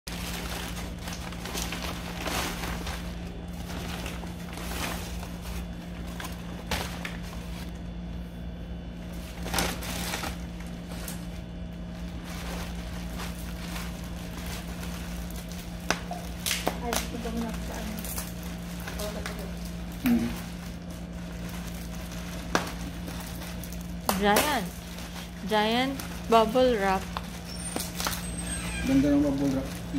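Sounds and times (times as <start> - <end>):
bags and bubble wrap crinkling: 0.1 - 29.9.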